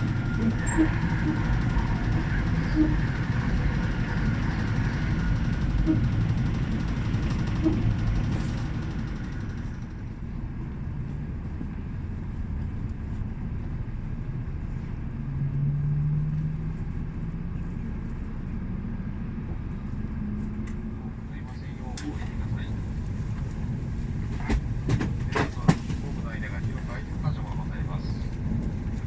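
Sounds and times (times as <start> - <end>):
low hum: 0.0 - 25.0
train rumbling: 0.0 - 29.0.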